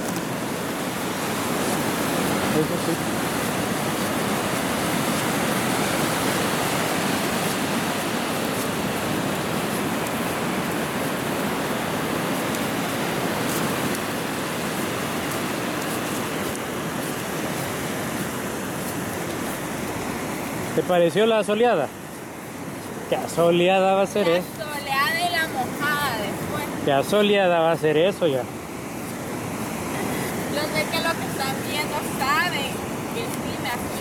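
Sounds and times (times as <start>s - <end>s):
ocean surf breaking: 0.0s - 34.0s.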